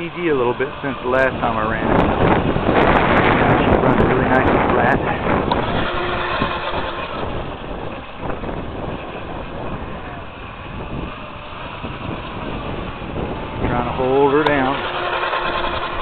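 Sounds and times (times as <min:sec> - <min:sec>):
electric boat motor whine: 0:00.0 - 0:16.0
wind noise on microphone: 0:00.0 - 0:16.0.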